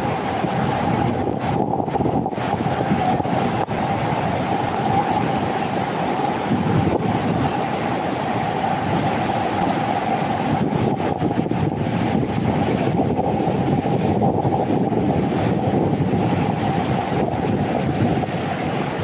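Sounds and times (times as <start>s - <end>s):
waterfall rushing: 0.0s - 19.0s
wind on microphone: 0.0s - 19.0s.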